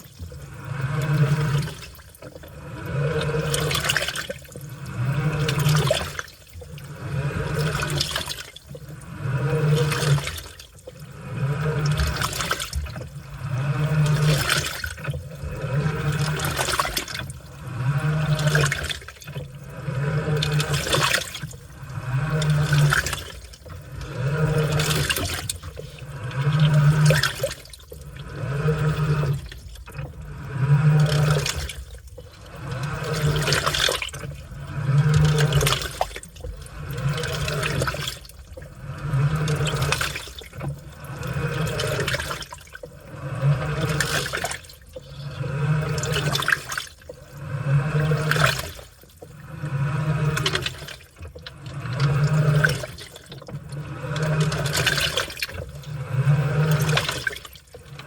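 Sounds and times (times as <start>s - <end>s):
washing machine motor humming: 0.0s - 58.0s
water sloshing through laundry: 0.0s - 58.0s.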